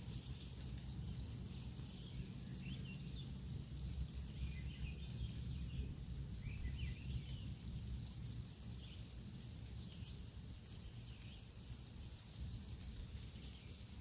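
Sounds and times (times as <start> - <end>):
campfire crackling and popping: 0.0 - 14.0
small birds chirping: 0.0 - 14.0.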